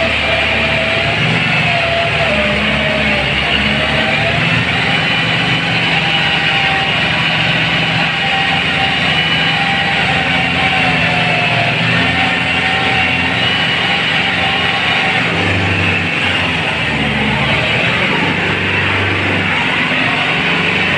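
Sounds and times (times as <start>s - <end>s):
tractor engine running under load: 0.0s - 20.9s.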